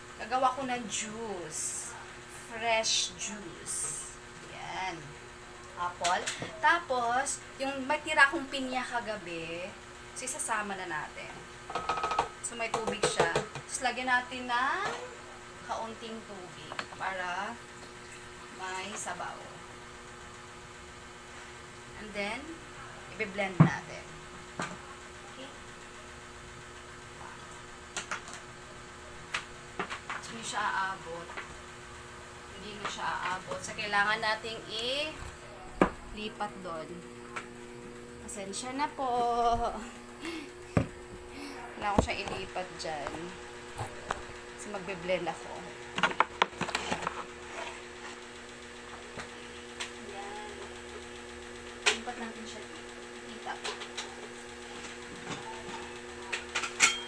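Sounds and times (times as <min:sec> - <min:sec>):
faint hum: 0:00.0 - 0:57.0.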